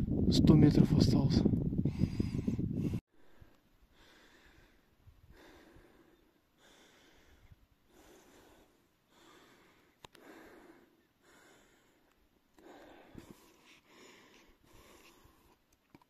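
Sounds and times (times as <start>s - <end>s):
person breathing hard: 1.8s - 15.6s.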